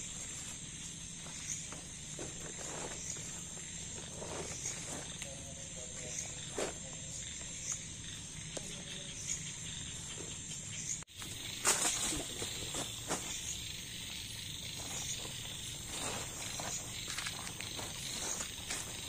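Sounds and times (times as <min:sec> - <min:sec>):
camping gear rustling: 0:00.0 - 0:07.7, 0:11.1 - 0:19.0
crickets chirring: 0:00.0 - 0:19.0.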